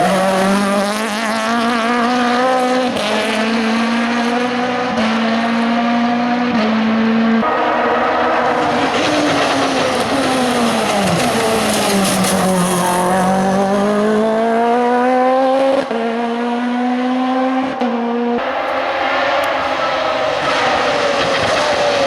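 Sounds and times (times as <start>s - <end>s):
race car engine passing: 0.0s - 22.0s.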